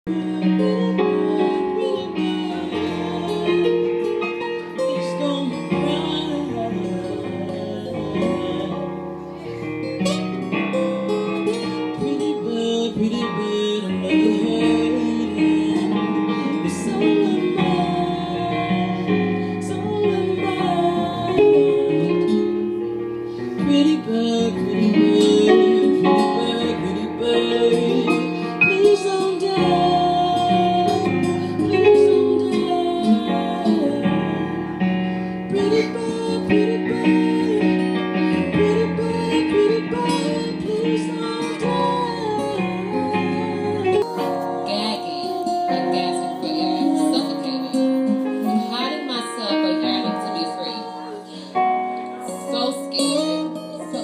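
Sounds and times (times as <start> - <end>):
person singing: 0.0 - 54.0
plucked acoustic guitar: 0.1 - 54.0.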